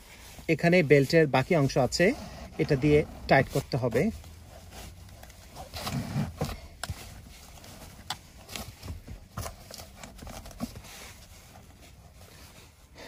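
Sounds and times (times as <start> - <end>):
strap rustling and clicking: 0.0 - 13.0.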